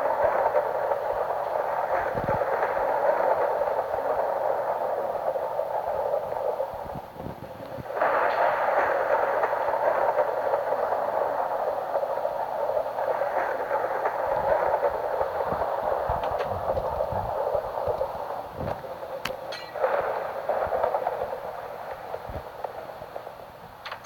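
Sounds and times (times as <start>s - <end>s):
thunderstorm rushing noise: 0.0s - 24.0s.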